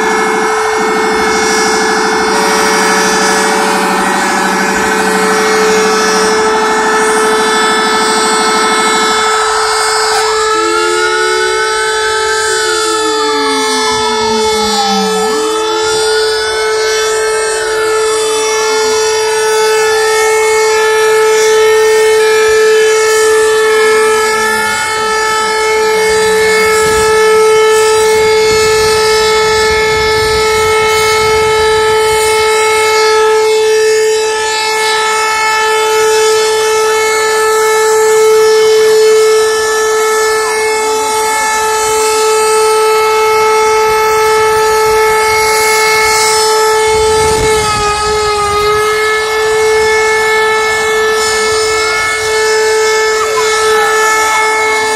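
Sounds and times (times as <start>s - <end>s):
loud steady siren tone: 0.0s - 54.9s
wailing sirens gliding down: 0.0s - 54.9s.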